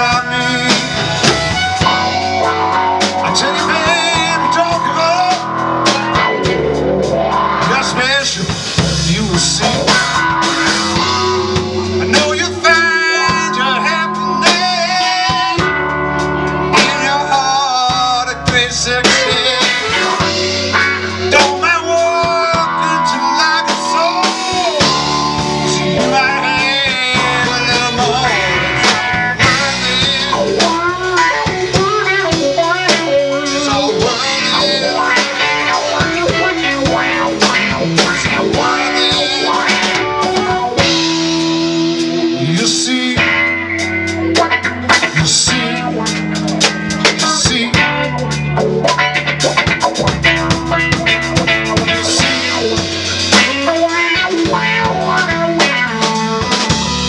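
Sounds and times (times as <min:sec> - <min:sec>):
blues-rock band playing: 0:00.0 - 0:57.0
harmonica with bending notes: 0:00.0 - 0:57.0.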